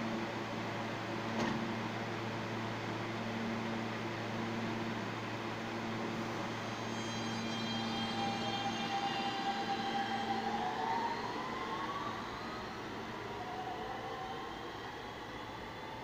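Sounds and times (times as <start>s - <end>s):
subway train whine rising in pitch: 0.0s - 16.0s
train hum and high tones: 0.0s - 16.0s.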